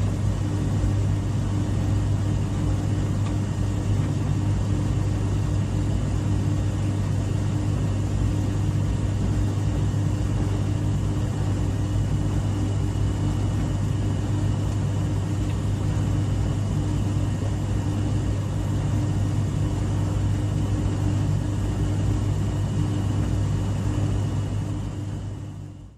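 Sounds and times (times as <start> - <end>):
clothes dryer humming and rumbling: 0.0 - 25.9.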